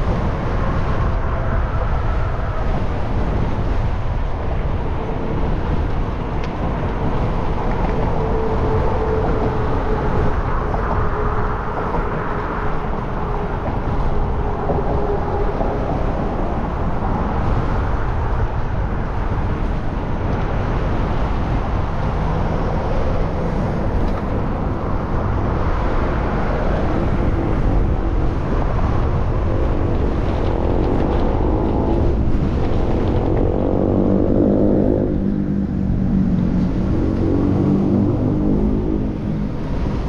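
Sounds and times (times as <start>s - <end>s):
engine hum: 0.0s - 40.0s
street traffic: 0.0s - 40.0s
wind on microphone: 0.0s - 40.0s.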